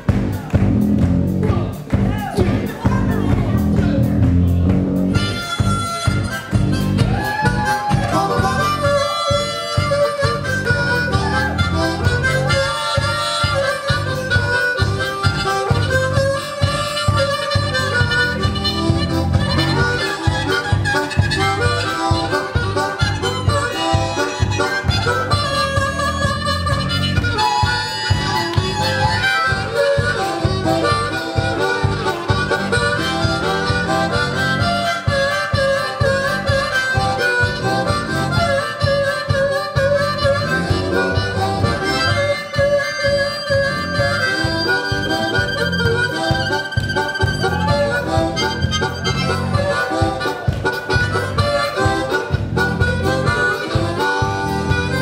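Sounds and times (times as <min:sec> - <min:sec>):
drums playing blues-rock beat: 0:00.0 - 0:55.0
electric bass: 0:00.0 - 0:55.0
amplified harmonica solo: 0:00.8 - 0:55.0.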